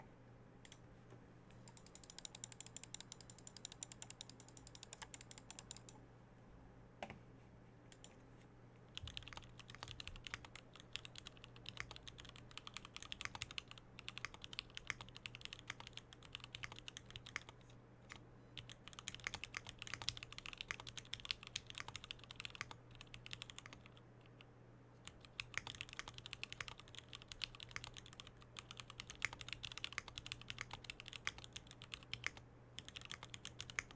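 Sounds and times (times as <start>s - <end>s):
mechanical keyboard typing: 1.7s - 6.0s, 9.0s - 17.6s, 18.6s - 24.0s, 25.1s - 33.9s.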